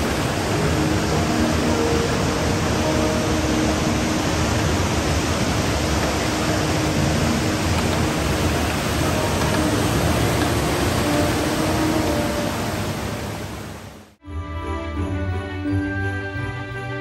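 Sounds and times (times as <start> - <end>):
waterfall pouring into a pool: 0.0 - 13.9.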